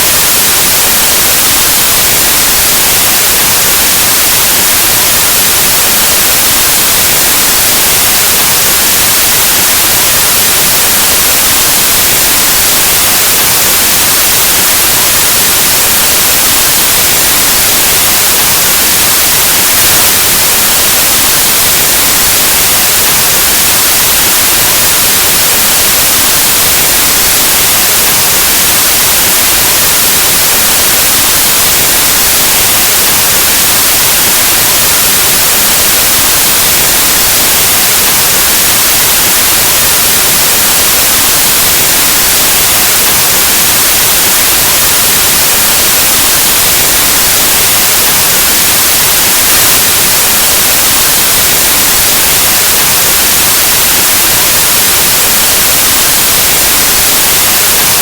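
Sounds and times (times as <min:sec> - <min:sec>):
white noise static hiss: 0:00.0 - 0:58.0.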